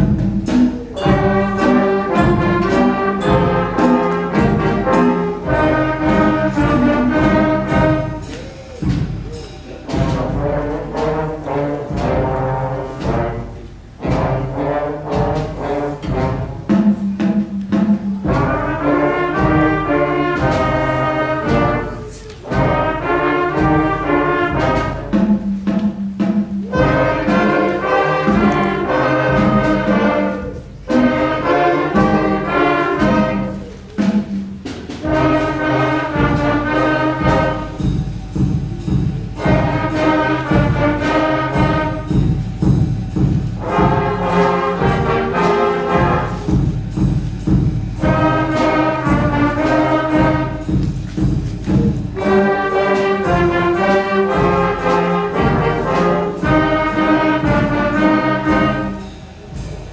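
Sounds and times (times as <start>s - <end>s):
school band playing brass and percussion: 0.0s - 59.9s.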